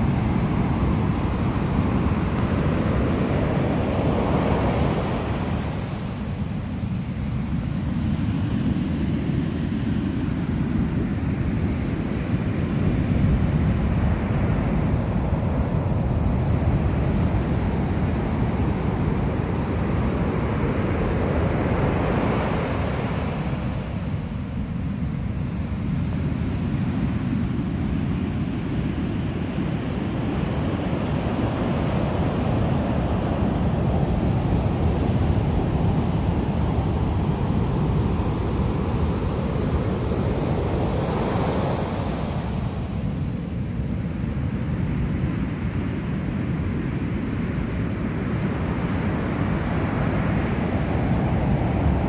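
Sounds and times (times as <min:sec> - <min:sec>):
ocean surf breaking on beach: 0:00.0 - 0:52.0
wind rumble on microphone: 0:00.0 - 0:52.0.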